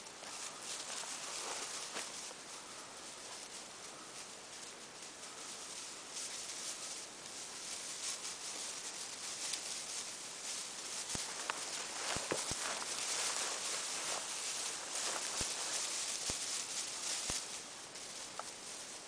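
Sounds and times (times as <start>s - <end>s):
faint crackles: 0.0s - 19.0s
feet swishing through dry grass: 0.1s - 19.0s.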